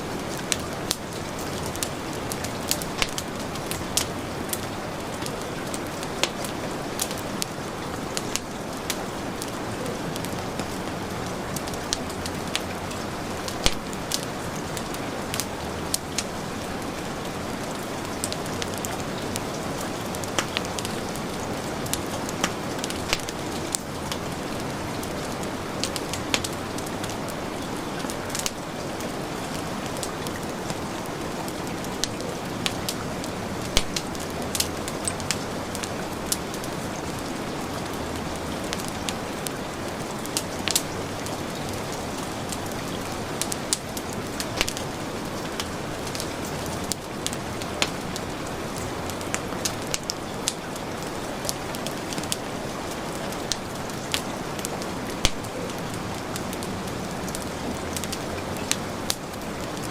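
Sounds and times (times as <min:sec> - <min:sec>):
heavy rain: 0:00.0 - 0:59.9
wood fire crackling: 0:00.0 - 0:59.9.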